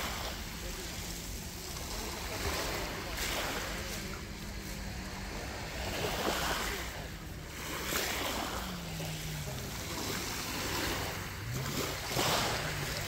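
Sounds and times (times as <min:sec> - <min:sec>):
faint wavering low hum: 0:00.0 - 0:13.0
sea waves washing onto shore: 0:00.0 - 0:13.0.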